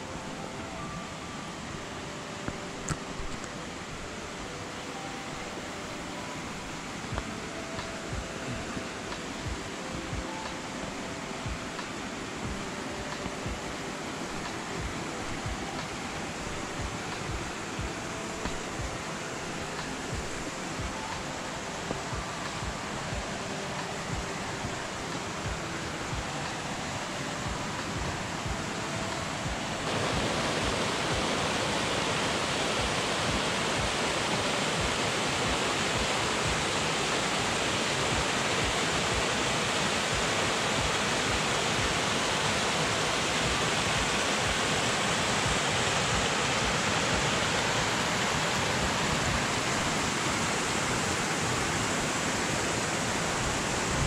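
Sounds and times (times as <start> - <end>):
stream rushing over cascades: 0.0 - 54.0.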